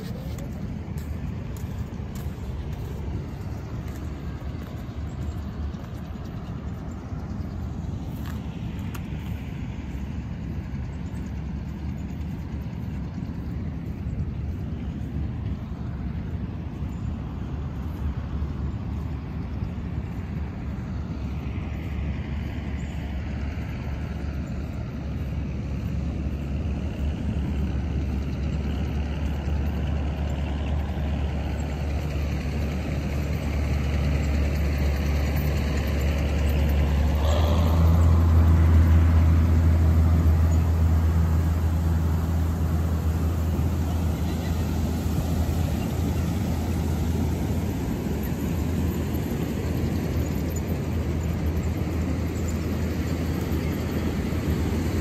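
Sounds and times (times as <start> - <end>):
aircraft engine drone overhead: 0.0 - 55.0.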